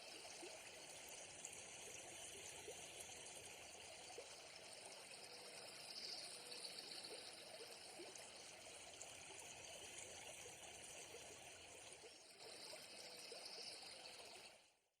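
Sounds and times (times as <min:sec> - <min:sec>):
small stream trickling: 0:00.0 - 0:14.9.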